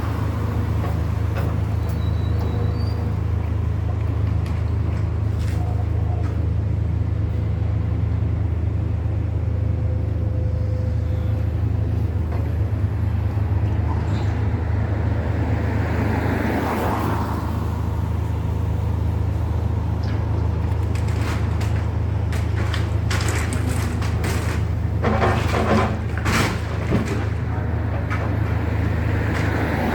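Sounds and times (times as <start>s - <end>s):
low engine rumble: 0.0s - 29.9s.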